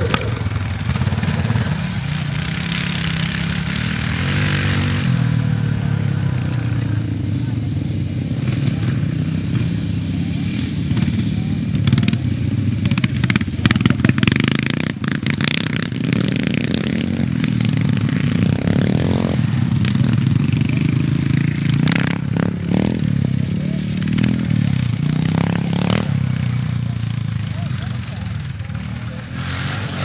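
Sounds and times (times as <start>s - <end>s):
exhaust crackling: 0.0s - 30.0s
motorcycle engine running: 0.0s - 30.0s.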